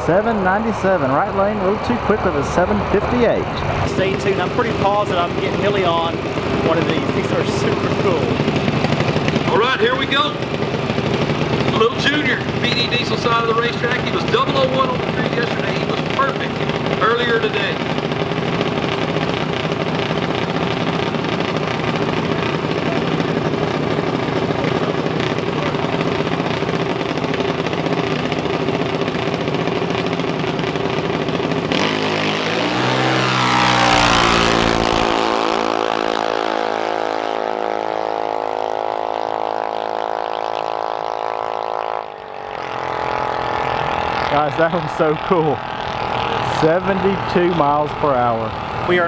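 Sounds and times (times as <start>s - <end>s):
truck engine racing past: 0.0s - 27.0s, 30.8s - 49.0s.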